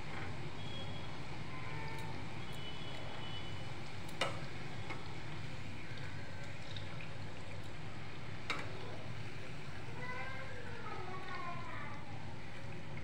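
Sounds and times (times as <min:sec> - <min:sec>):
deep-frying in hot oil: 0:00.0 - 0:13.0.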